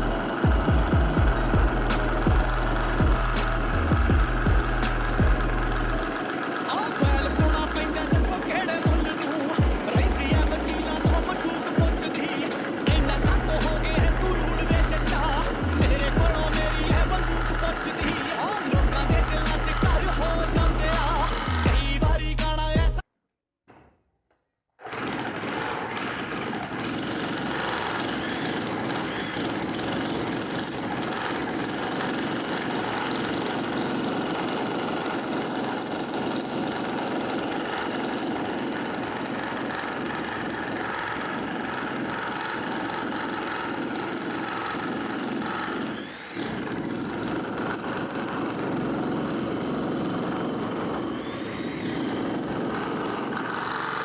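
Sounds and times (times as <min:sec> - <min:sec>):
motor-driven machine running: 0:00.0 - 0:23.0, 0:24.9 - 0:54.0.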